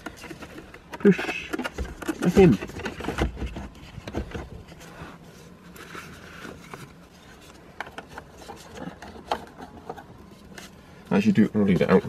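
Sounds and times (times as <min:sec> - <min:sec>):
faint plastic rubbing: 0:00.0 - 0:12.0.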